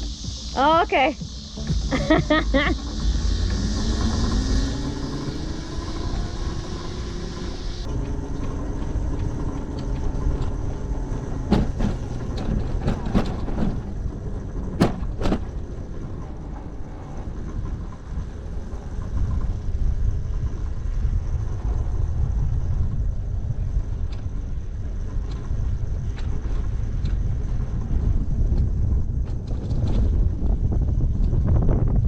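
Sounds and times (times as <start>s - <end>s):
road noise: 0.0s - 32.0s
wind rumble: 0.0s - 32.0s.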